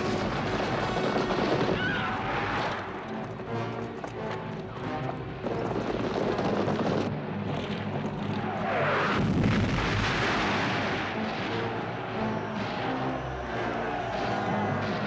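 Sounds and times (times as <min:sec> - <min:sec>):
cannon fire and explosions: 0:00.0 - 0:02.9, 0:05.4 - 0:15.0
orchestral film music: 0:00.0 - 0:15.0.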